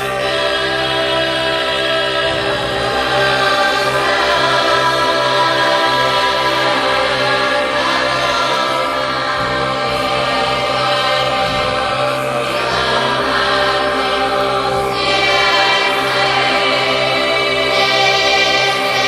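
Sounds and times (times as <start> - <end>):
throat singing drone: 0.0 - 19.0.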